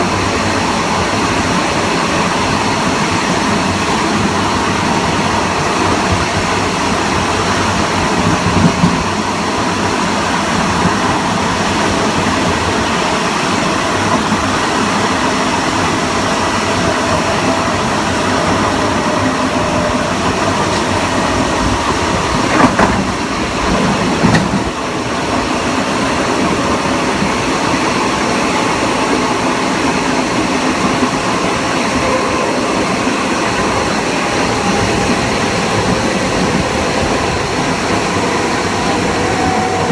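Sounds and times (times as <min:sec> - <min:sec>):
traction motor whine: 0:00.0 - 0:39.9
train wheel and rail rumble: 0:00.0 - 0:39.9.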